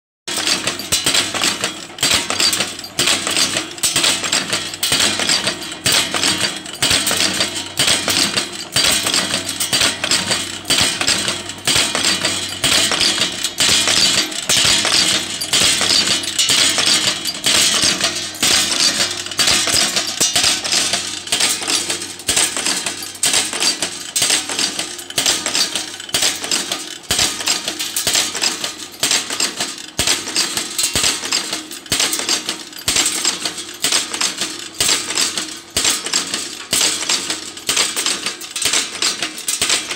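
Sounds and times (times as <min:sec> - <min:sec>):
machine metal clatter: 0:00.3 - 0:39.9.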